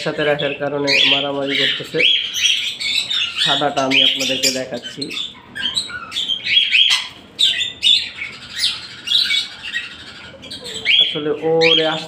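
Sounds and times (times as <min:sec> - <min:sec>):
parakeets chirping and squawking: 0:00.0 - 0:12.0.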